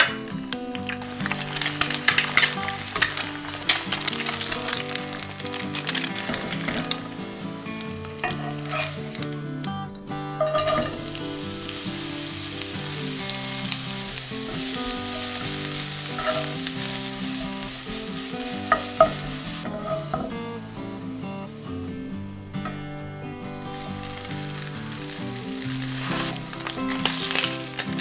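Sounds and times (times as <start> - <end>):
food sizzling in frying pan: 0.0 - 9.8, 10.4 - 28.0.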